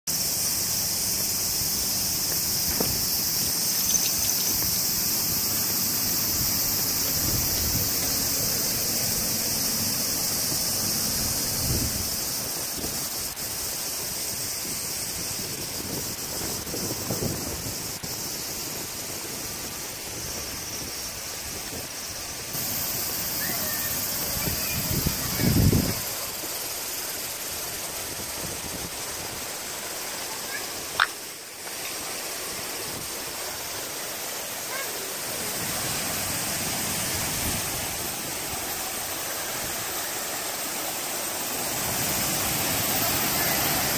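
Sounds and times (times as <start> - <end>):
high-pitched outdoor hiss: 0.0 - 43.9.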